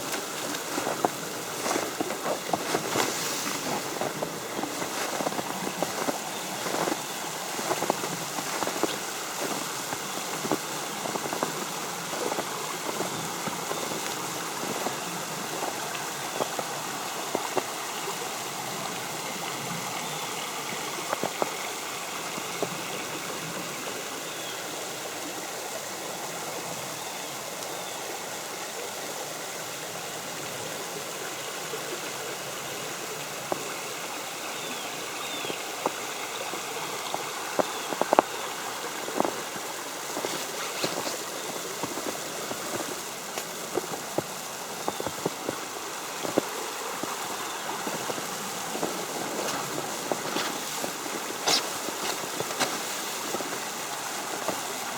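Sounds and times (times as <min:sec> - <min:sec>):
creek water flowing: 0:00.0 - 0:54.9.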